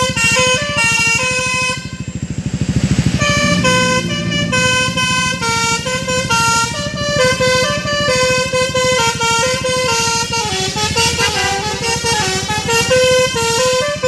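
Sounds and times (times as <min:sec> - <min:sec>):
truck melody horn: 0:00.0 - 0:02.3, 0:03.0 - 0:14.0
diesel engine pulsing: 0:00.0 - 0:14.0.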